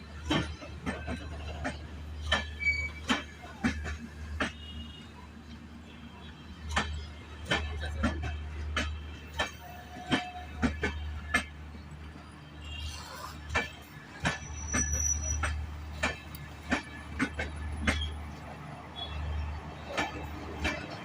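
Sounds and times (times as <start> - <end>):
clicks and knocks of train: 0.0 - 21.0
train rumble: 0.0 - 21.0.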